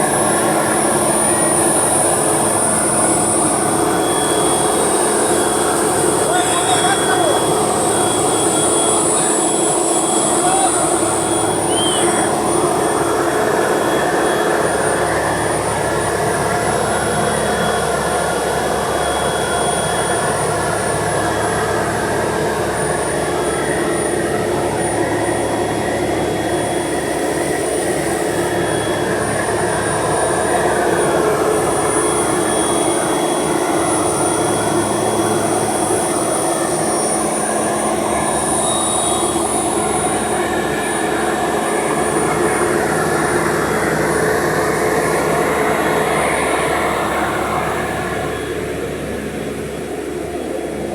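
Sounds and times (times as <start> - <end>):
large engine running steadily: 0.0 - 50.9.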